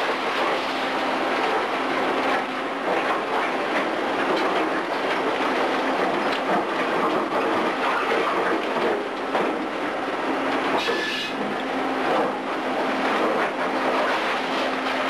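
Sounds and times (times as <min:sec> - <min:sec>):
excavator engine drone: 0:00.0 - 0:15.0.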